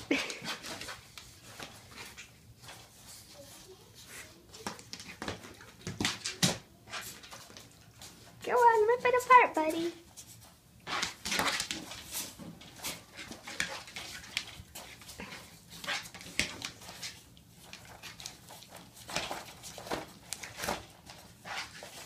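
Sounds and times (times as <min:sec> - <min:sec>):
paper and cardboard crinkling: 0:00.0 - 0:22.0.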